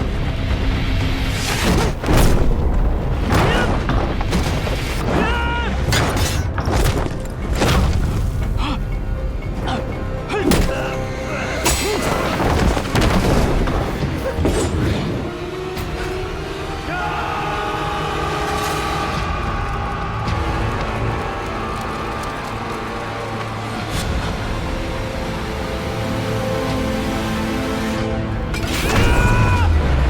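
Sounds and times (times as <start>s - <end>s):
dramatic film score: 0.0s - 30.0s.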